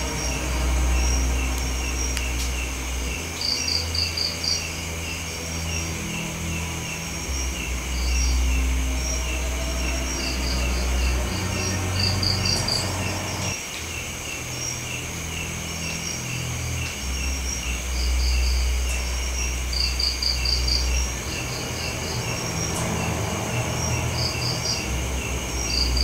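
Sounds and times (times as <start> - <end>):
crickets chirping: 0.0 - 26.0
low drone: 0.0 - 26.0.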